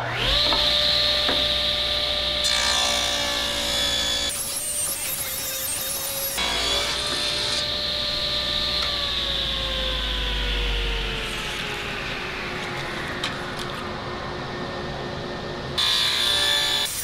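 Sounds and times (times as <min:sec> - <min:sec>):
table saw whine: 0:00.0 - 0:17.0.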